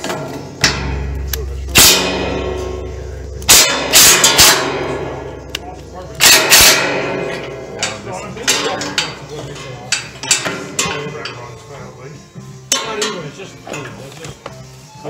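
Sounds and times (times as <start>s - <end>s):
metal tools clanking on metal: 0.0s - 11.8s, 12.6s - 14.4s.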